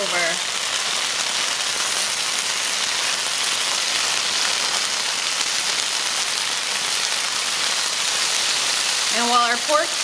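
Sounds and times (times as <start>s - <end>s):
meat sizzling in frying pans: 0.0s - 10.0s.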